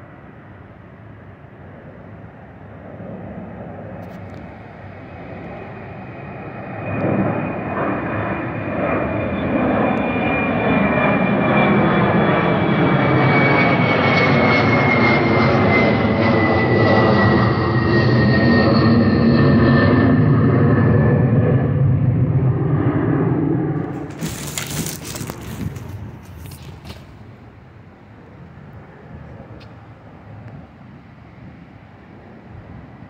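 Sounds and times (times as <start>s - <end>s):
high jet engine whine: 0.0s - 33.0s
jet airliner flying overhead: 0.0s - 33.0s.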